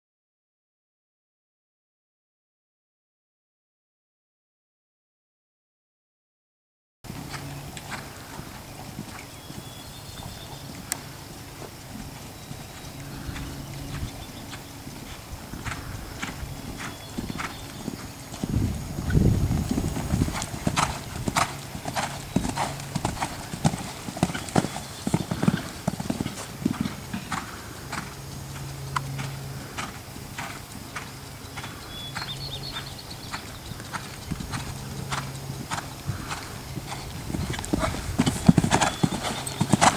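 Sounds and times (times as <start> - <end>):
hooves on sand at a canter: 7.1 - 39.9.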